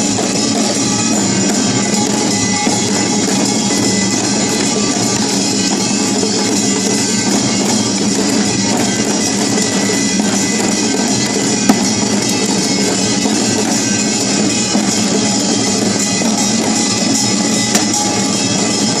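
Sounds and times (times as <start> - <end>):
drums: 0.0 - 19.0
ringing metal gongs: 0.0 - 19.0.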